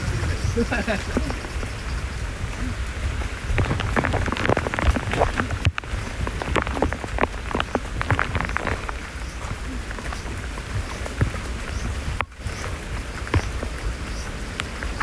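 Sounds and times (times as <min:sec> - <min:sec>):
heavy rain falling: 0:00.0 - 0:15.0
raindrops tapping close by: 0:00.0 - 0:15.0.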